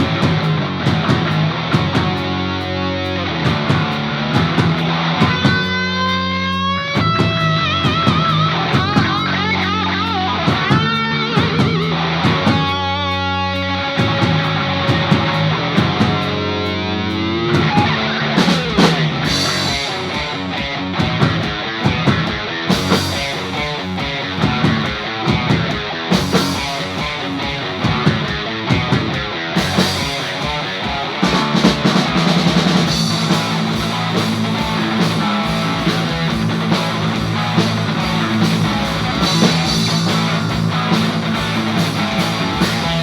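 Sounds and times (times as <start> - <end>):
bass: 0.0 - 43.0
distorted electric guitar riff: 0.0 - 43.0
drums: 0.0 - 43.0
lead guitar lines: 0.0 - 43.0.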